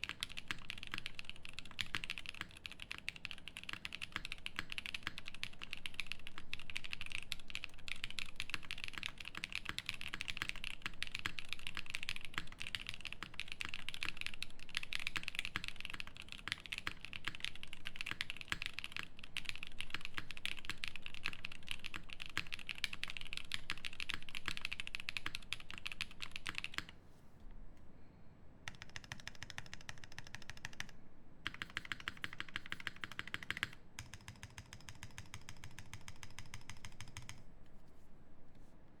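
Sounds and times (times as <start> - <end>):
fast typing on mechanical keyboard: 0.0 - 26.9, 28.7 - 37.4.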